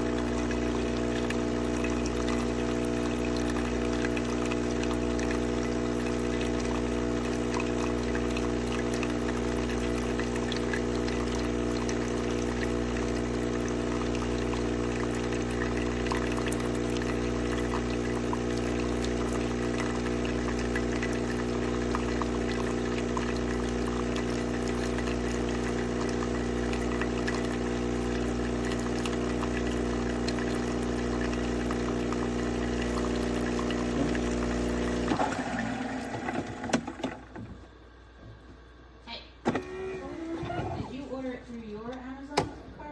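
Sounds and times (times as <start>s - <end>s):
espresso machine pump humming: 0.0s - 37.9s.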